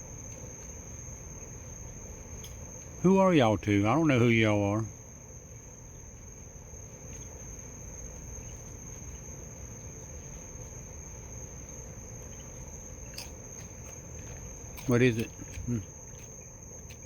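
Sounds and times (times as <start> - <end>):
crickets trilling: 0.0 - 17.0
low background hiss: 0.0 - 17.0.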